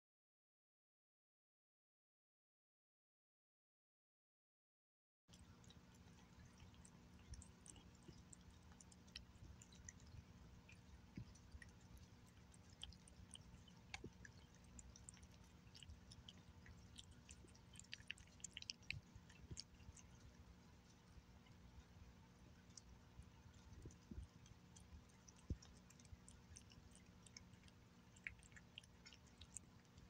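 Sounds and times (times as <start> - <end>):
cat chewing and licking food: 5.3 - 30.0.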